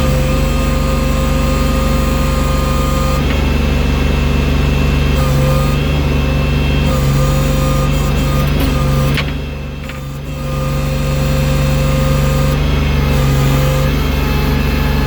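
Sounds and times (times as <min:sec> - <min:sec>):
mechanical whine: 0:00.0 - 0:15.0
tractor engine running: 0:00.0 - 0:15.0.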